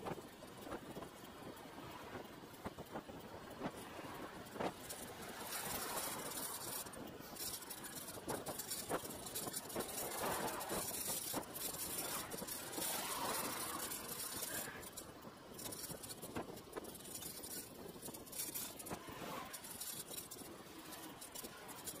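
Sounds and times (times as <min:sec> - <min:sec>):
bicycle rattling clicks: 0:00.0 - 0:22.0
road and wind noise: 0:00.0 - 0:22.0.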